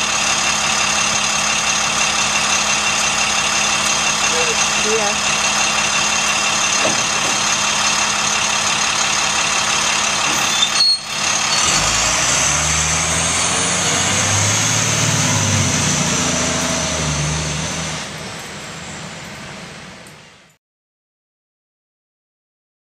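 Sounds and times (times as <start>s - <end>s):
bus engine idling and revving: 0.0s - 20.6s.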